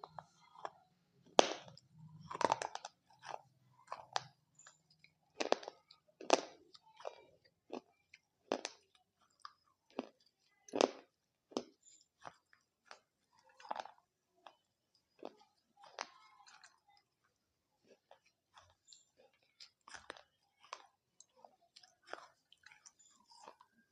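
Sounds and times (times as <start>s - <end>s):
crisp food crunching: 0.0s - 23.9s.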